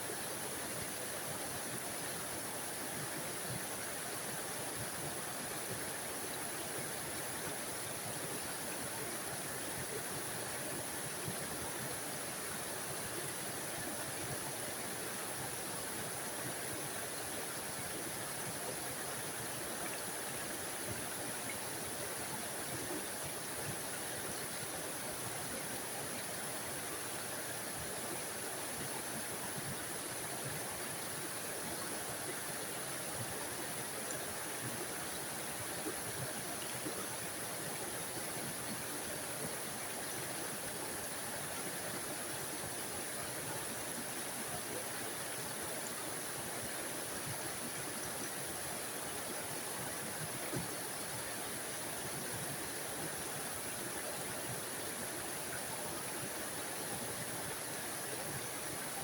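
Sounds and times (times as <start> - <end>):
small waterfall rushing: 0.0 - 59.0.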